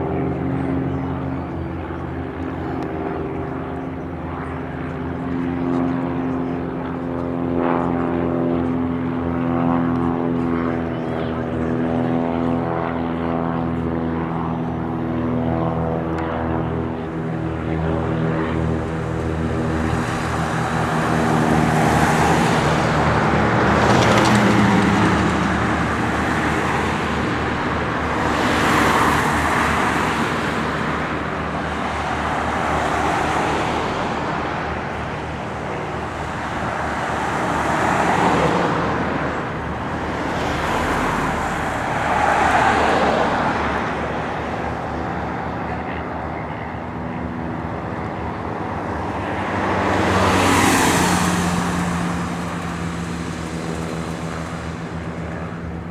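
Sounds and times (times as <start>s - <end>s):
propeller aircraft engine drone: 0.0s - 55.9s
rushing of passing aircraft: 0.0s - 55.9s.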